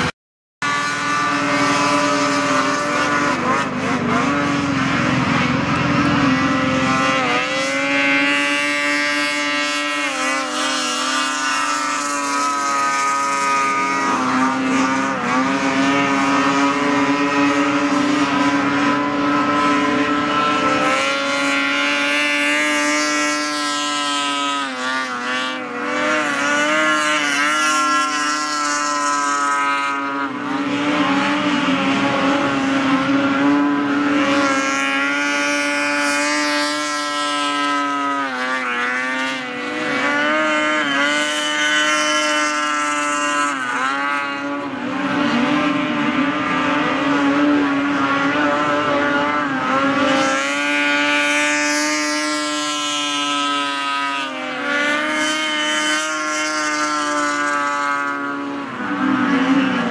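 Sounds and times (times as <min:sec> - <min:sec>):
snowmobile engines whining: 0:00.0 - 0:59.9.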